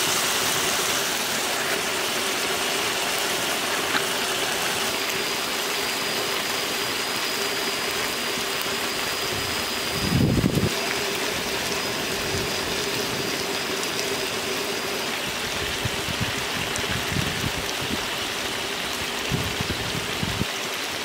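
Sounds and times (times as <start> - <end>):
fish sizzling and bubbling: 0.0 - 21.0.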